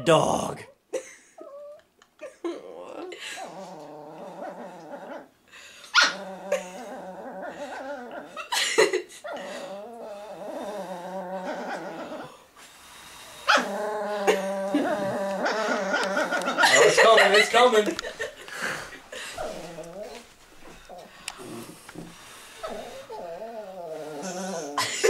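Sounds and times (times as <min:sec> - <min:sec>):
dog growling: 0:02.4 - 0:08.6, 0:09.2 - 0:12.5, 0:13.2 - 0:25.0.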